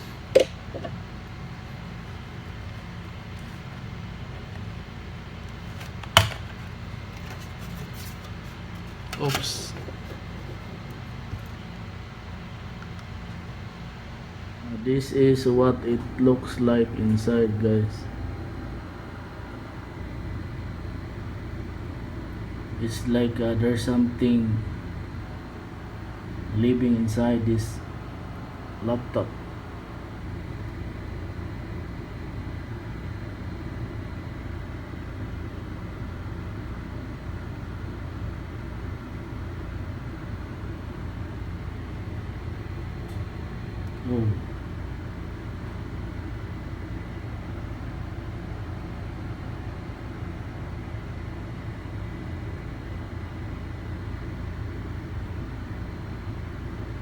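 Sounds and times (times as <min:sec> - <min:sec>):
faint high whine: 0:00.0 - 0:57.0
low rumbling background noise: 0:00.0 - 0:57.0.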